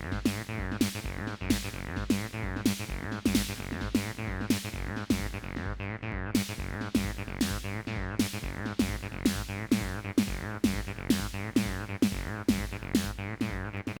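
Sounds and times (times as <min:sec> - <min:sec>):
crisp high percussion: 0:00.0 - 0:05.7, 0:06.4 - 0:14.0
bass line: 0:00.0 - 0:14.0
electronic drum and bass beat: 0:00.0 - 0:14.0.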